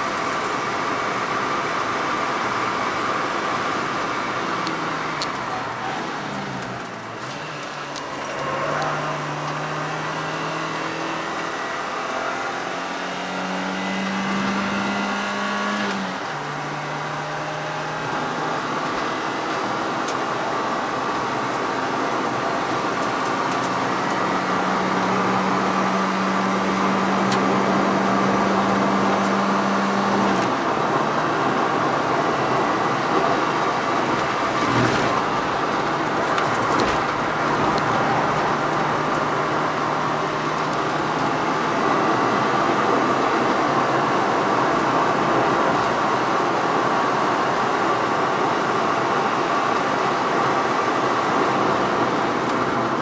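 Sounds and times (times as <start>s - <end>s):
car engine from inside cabin: 0.0s - 53.0s
tyre and wind noise inside a car: 0.0s - 53.0s.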